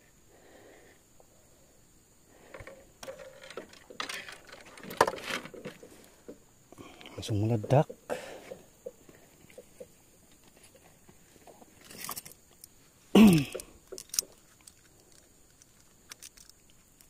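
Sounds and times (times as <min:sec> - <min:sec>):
handling rustle: 0:02.5 - 0:06.4, 0:07.1 - 0:17.0.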